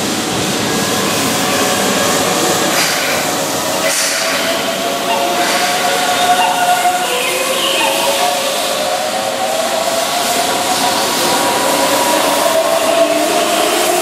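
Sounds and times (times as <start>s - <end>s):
train cars rolling: 0.0s - 14.0s.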